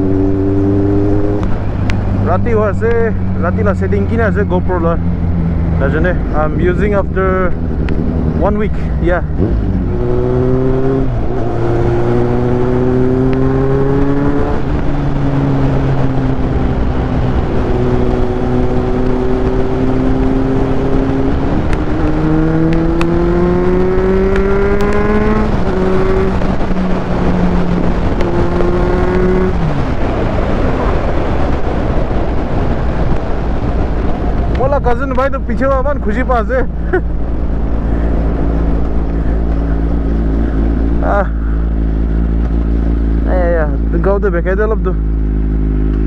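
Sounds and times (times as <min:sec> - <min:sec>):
heavy wind noise: 0:00.0 - 0:46.0
motorcycle engine accelerating: 0:00.0 - 0:46.0.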